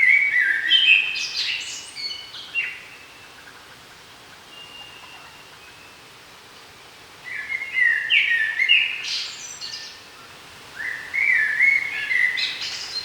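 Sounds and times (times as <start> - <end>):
songbird singing: 0.0 - 3.6, 4.4 - 13.0.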